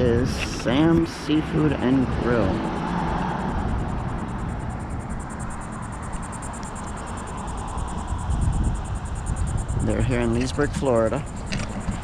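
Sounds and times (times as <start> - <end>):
insects trilling: 0.0 - 12.0
low rumble: 0.0 - 12.0.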